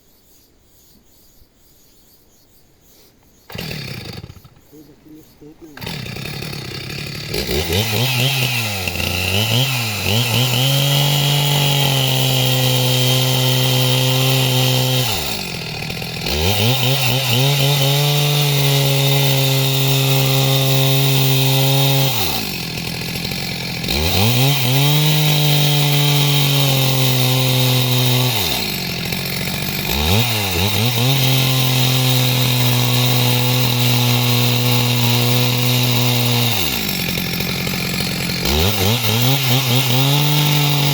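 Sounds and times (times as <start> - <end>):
chainsaw cutting wood: 3.4 - 40.9.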